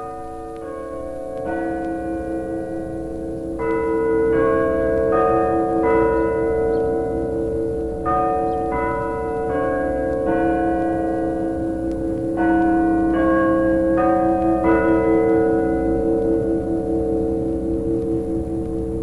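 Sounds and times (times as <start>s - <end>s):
chime bells playing a melody: 0.0s - 17.4s.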